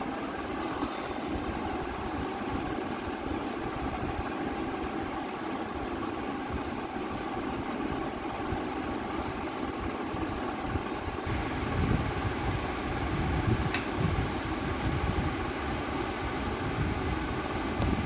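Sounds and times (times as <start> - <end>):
electric fan whirring: 0.0 - 18.0.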